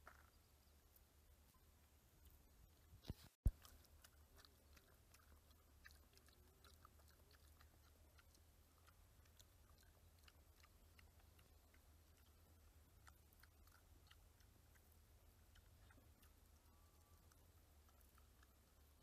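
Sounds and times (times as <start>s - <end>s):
quiet chewing: 0.0s - 19.0s.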